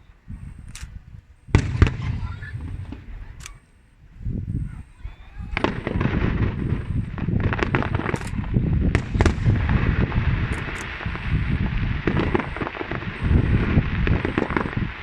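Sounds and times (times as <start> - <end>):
crackling firework bursts: 0.0 - 4.0, 4.7 - 15.0
firework bangs: 1.4 - 3.6, 4.7 - 15.0.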